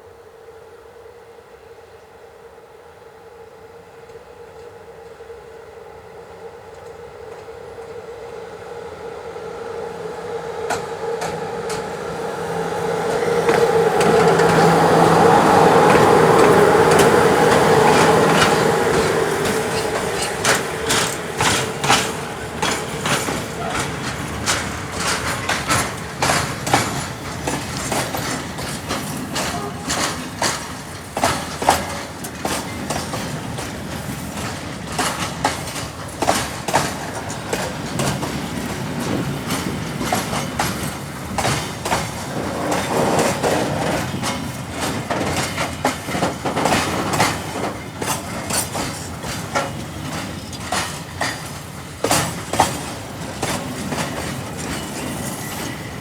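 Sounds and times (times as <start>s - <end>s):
train rumble: 3.6s - 56.0s
train wheels clacking on rails: 9.5s - 56.0s.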